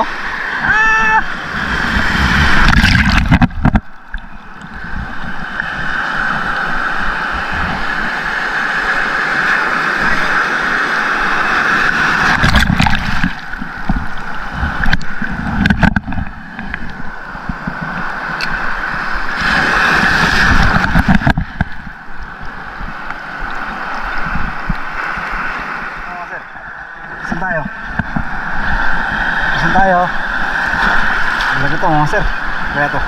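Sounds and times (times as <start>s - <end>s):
ocean surf rushing: 0.0s - 33.0s.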